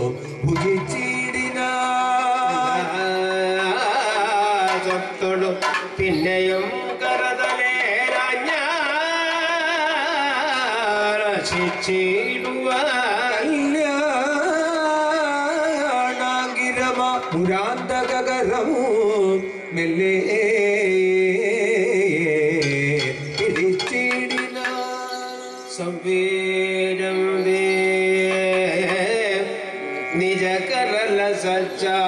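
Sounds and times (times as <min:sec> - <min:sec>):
drumming: 0:00.0 - 0:20.1, 0:22.1 - 0:25.9, 0:28.1 - 0:31.2
men singing wavering notes: 0:00.0 - 0:32.0.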